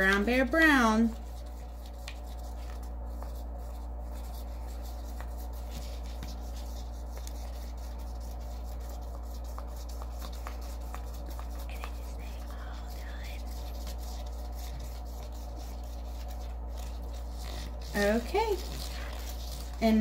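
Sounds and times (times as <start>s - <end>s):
cotton swab scratching on paper: 0.0s - 20.0s
steady low hum: 0.0s - 20.0s.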